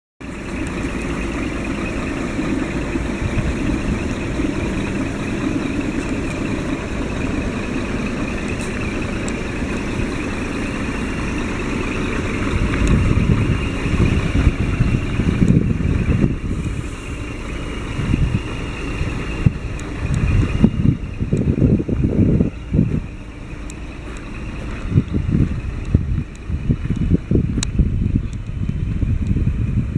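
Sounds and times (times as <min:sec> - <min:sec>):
diesel truck engine idling: 0:00.2 - 0:29.9
wind noise on microphone: 0:00.4 - 0:29.9.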